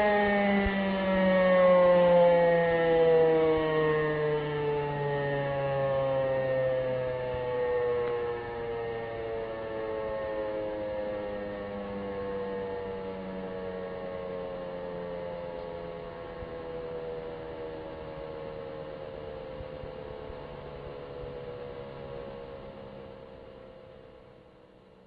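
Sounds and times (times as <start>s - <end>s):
warning siren winding down: 0.0s - 25.0s.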